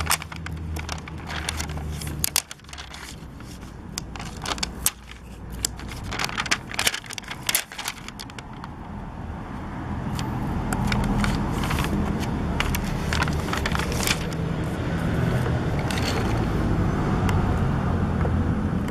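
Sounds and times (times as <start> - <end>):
plastic sticker sheet crackling: 0.0 - 8.9, 10.1 - 16.6.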